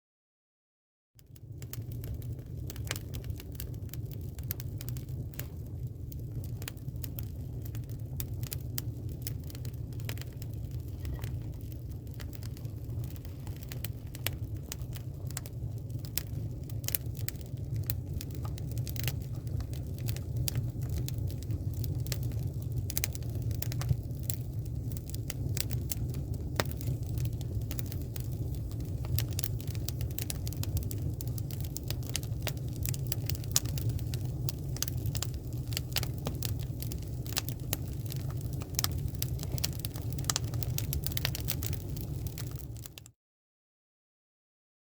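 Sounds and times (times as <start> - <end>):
fire crackling and popping: 1.2 - 43.1
flames rumbling: 1.2 - 43.1.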